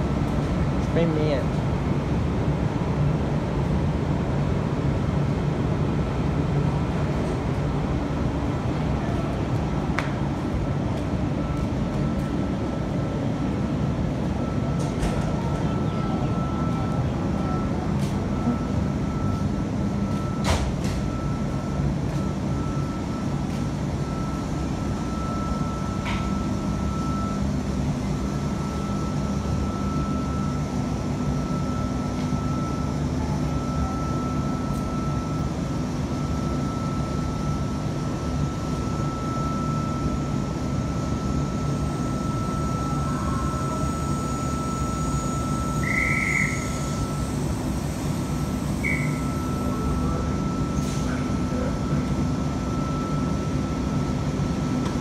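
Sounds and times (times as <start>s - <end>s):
electric train humming: 0.0s - 55.0s.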